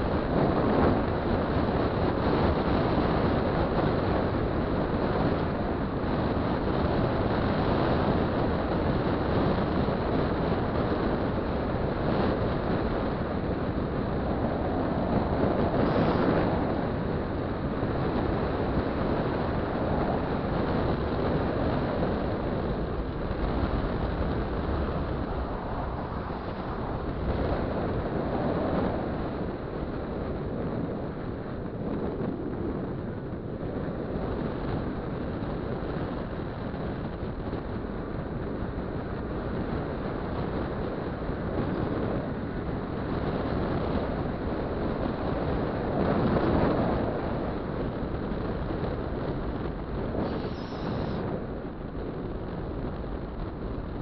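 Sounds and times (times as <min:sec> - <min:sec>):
road noise: 0:00.0 - 0:31.6, 0:33.0 - 0:54.0
wind over microphone: 0:00.0 - 0:54.0.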